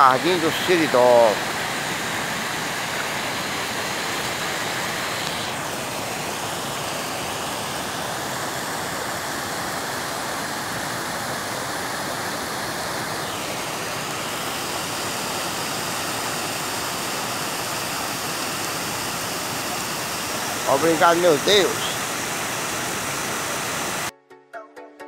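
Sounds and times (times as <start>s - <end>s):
water rushing over rocks: 0.0s - 24.1s.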